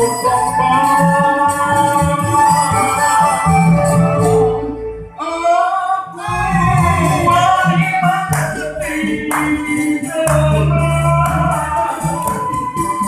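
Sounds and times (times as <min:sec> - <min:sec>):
man singing: 0:00.0 - 0:03.4, 0:05.2 - 0:13.0
acoustic guitars: 0:00.0 - 0:05.2, 0:06.2 - 0:13.0.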